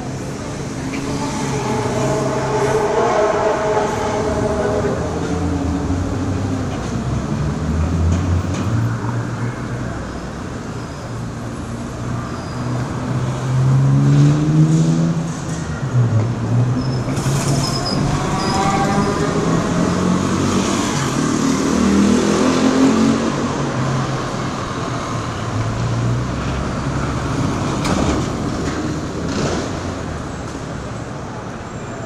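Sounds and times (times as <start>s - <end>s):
vehicles passing: 0.0s - 32.0s.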